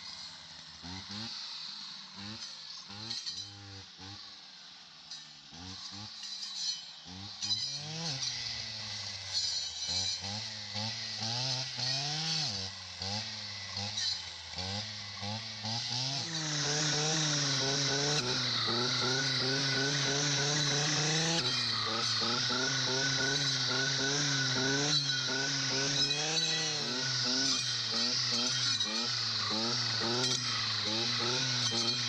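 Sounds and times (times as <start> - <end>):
chainsaw engine revving: 0.0 - 32.0.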